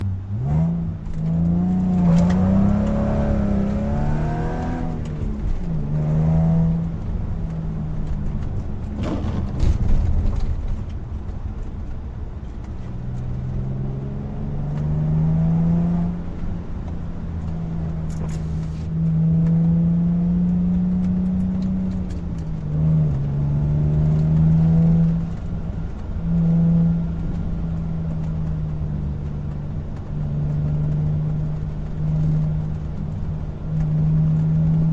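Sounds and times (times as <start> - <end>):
car engine accelerating through gears: 0.0 - 34.9.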